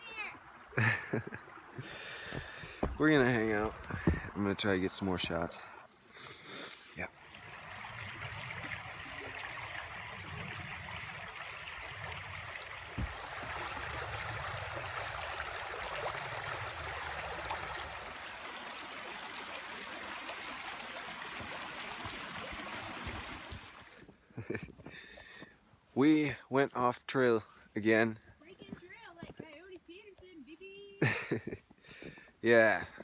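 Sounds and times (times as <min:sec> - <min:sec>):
creek water running: 0:00.0 - 0:29.7.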